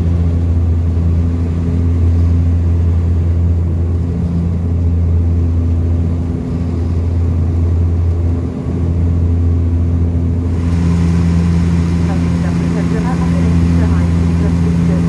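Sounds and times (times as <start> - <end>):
airplane propellers droning in cabin: 0.0 - 15.0.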